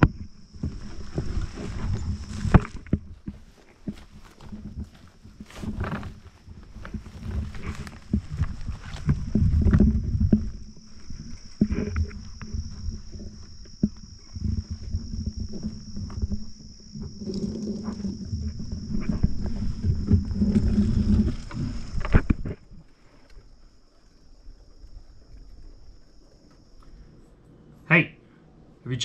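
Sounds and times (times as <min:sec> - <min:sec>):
bike tyres rumbling on sand: 0:00.0 - 0:26.3
insect drone: 0:00.0 - 0:29.0.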